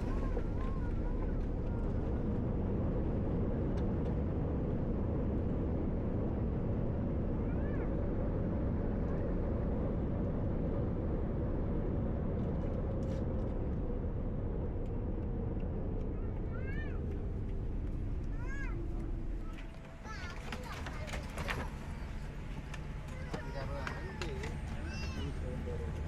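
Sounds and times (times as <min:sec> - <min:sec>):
vehicle cabin rumble: 0:00.0 - 0:26.0.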